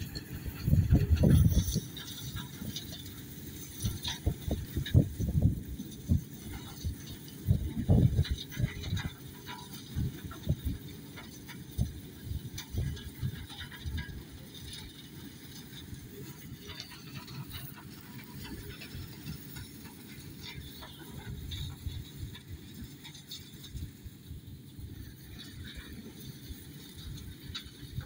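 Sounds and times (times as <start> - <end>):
forage harvester chopper clatter: 0.0 - 28.0
tractor engine: 0.0 - 28.0
wind buffeting microphone: 0.0 - 28.0.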